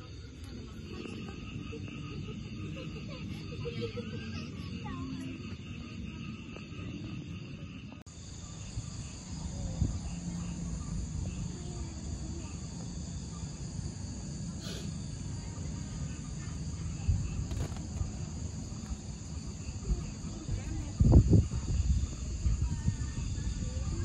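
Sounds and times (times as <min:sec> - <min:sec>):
insects chorus shrilling: 0:00.0 - 0:24.0.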